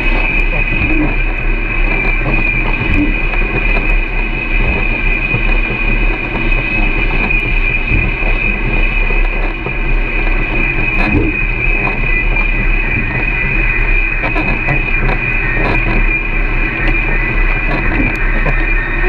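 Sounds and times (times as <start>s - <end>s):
drone motors and propellers: 0.0s - 19.0s.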